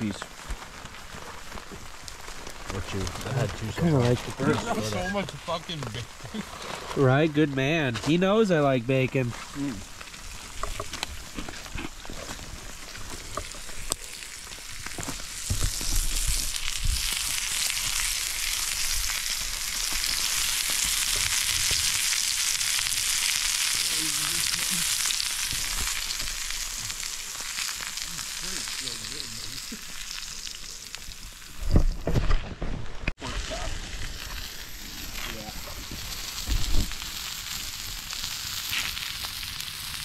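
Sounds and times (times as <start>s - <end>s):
steak sizzling over a fire: 0.0s - 32.4s, 33.2s - 40.0s.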